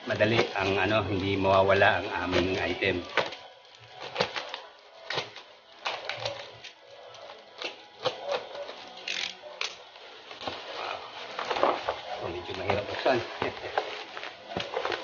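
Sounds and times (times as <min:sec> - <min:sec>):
plastic pouch crinkling: 0:00.0 - 0:15.0.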